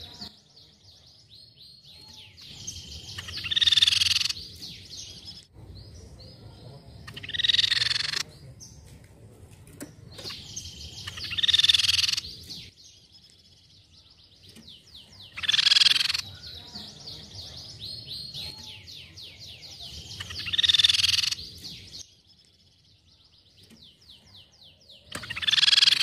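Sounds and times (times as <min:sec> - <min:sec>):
bird singing with rattling trill: 0:00.0 - 0:09.0, 0:09.7 - 0:26.0.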